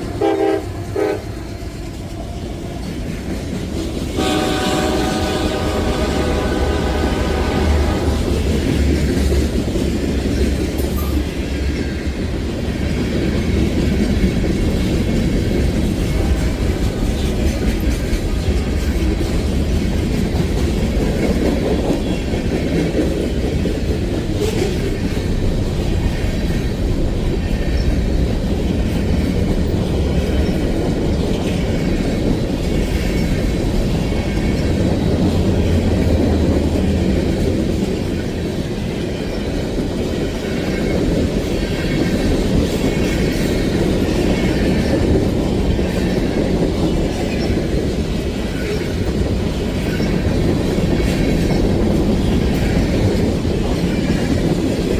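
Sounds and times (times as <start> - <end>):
freight train wheels rumbling: 0.0 - 54.9
wheels clacking over rail joints: 0.0 - 54.9.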